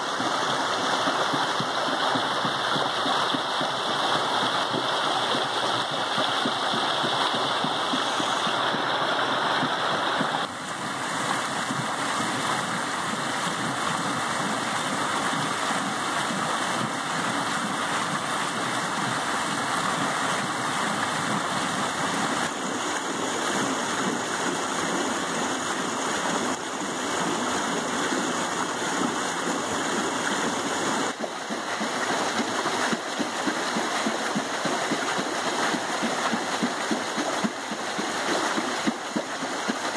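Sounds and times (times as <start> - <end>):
creek water rushing: 0.0 - 39.9
water wheel paddles churning: 0.0 - 39.9.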